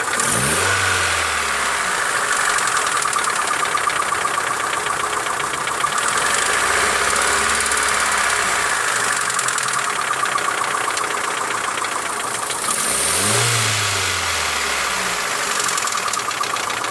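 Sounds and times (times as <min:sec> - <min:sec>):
car engine idling: 0:00.0 - 0:16.9
rapid engine knocking: 0:00.0 - 0:16.9.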